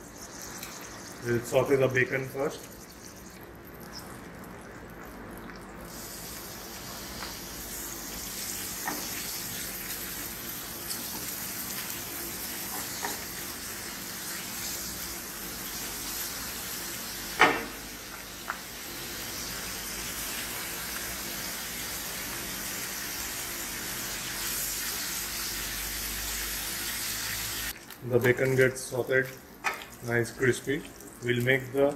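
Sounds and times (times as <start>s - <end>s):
bacon sizzling in a frying pan: 0.0s - 3.7s, 5.5s - 31.9s.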